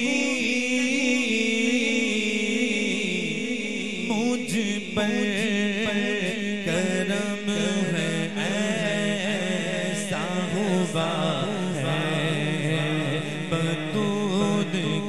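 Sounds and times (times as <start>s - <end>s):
men chanting devotional song: 0.0s - 15.0s.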